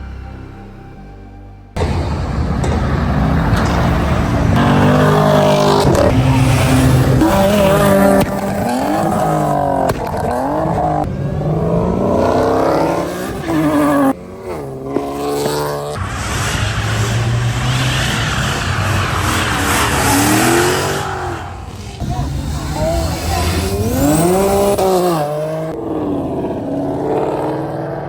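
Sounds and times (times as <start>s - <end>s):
car engines revving: 1.7s - 28.0s.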